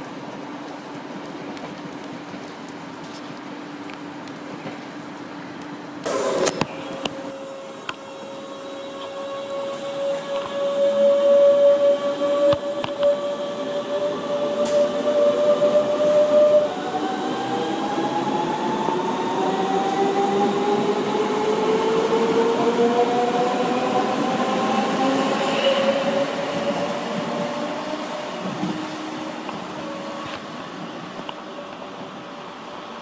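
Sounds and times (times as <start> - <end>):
train wheels rumbling: 6.0 - 33.0.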